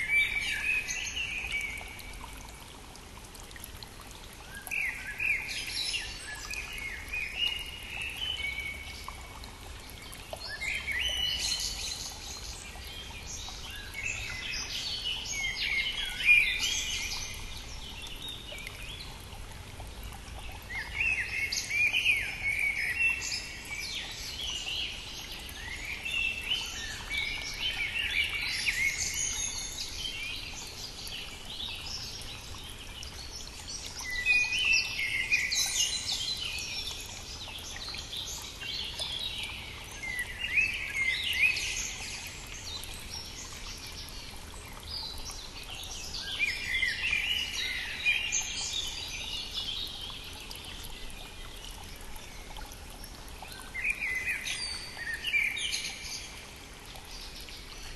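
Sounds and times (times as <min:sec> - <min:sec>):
small stream rushing: 0:00.0 - 0:57.9
songbirds singing: 0:00.0 - 0:57.9.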